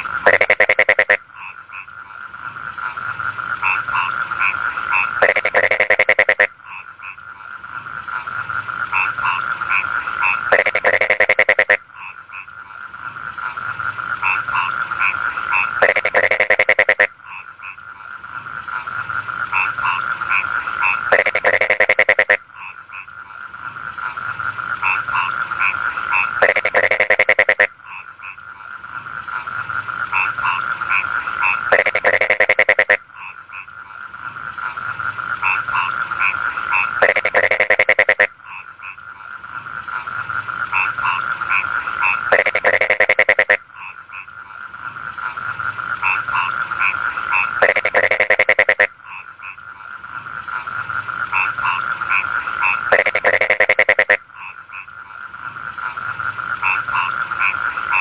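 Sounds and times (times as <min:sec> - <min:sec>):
burst of rapid frog croaks: 0:00.0 - 0:58.0
frogs croaking and trilling: 0:00.0 - 0:58.0.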